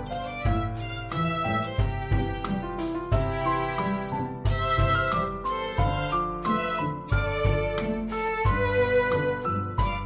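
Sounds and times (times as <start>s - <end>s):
gentle instrumental music: 0.0s - 10.0s.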